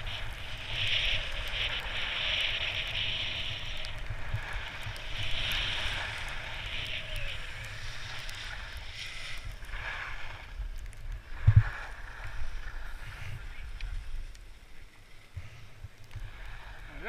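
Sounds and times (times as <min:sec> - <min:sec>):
wind on microphone: 0:00.0 - 0:14.4
skis scraping over packed snow: 0:00.0 - 0:17.0.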